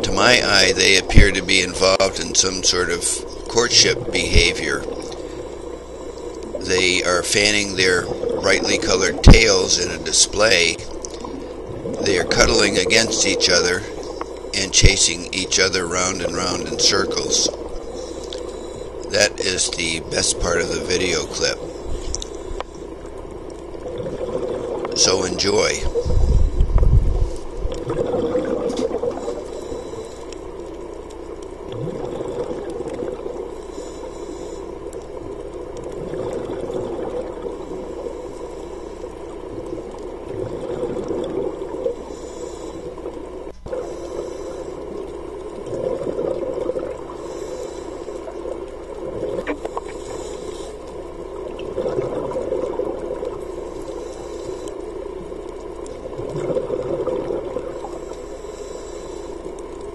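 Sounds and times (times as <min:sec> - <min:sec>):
underwater water noise: 0:00.0 - 0:59.9
bubbling exhaled air underwater: 0:02.8 - 0:30.8, 0:31.6 - 0:59.2.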